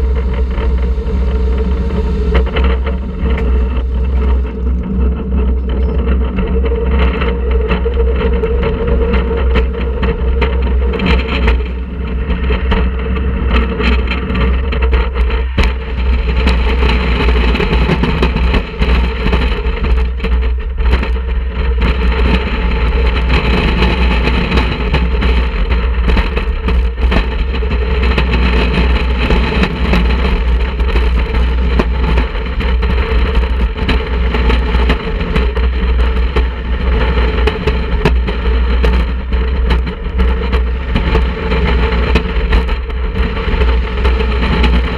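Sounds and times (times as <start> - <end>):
roller coaster train running on track: 0.0 - 44.9
wind buffeting microphone: 0.0 - 44.9.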